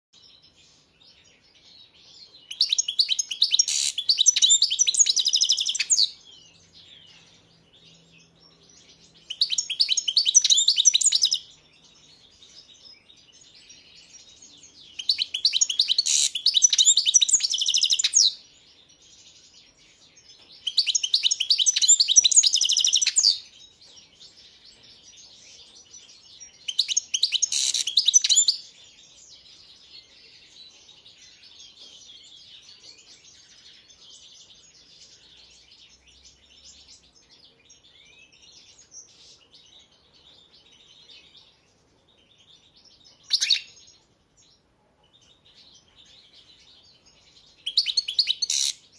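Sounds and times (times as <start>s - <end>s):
finch twittering song: 0.2s - 48.9s.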